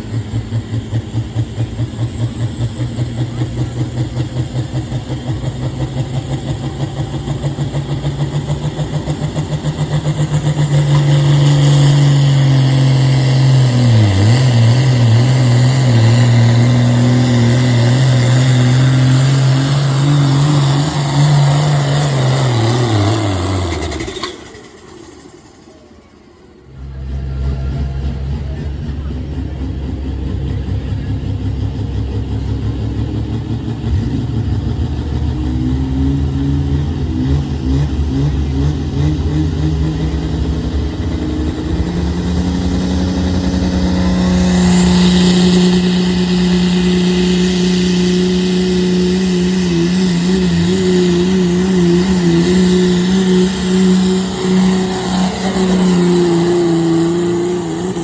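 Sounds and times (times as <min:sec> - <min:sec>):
pulling vehicle engine howling: 0:00.0 - 0:58.0.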